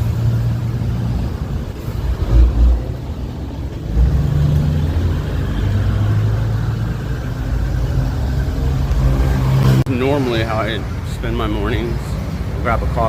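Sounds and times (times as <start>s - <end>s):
traffic passing: 0.0s - 13.0s.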